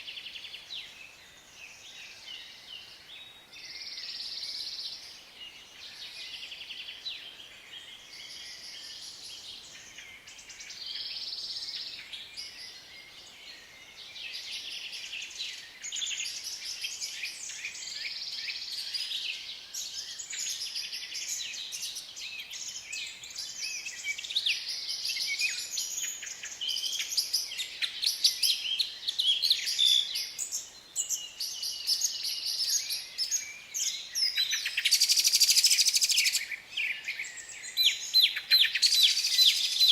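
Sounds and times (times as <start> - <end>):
birds chirping and trilling: 0.1 - 39.9.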